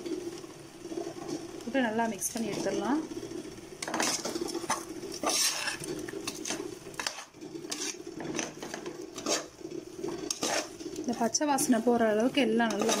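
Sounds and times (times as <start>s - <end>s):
metal ladle scraping a pot: 2.3s - 13.0s.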